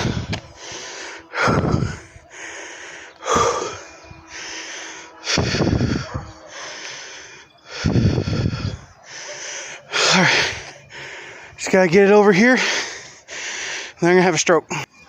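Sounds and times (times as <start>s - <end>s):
man breathing hard and gasping: 0.0s - 11.6s, 12.5s - 14.0s.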